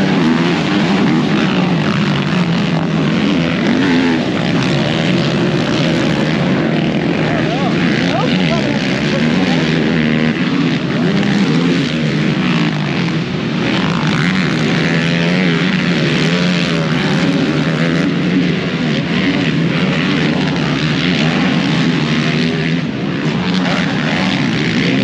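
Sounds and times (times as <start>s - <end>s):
atv engines revving: 0.0s - 25.0s
low engine drone: 0.0s - 25.0s.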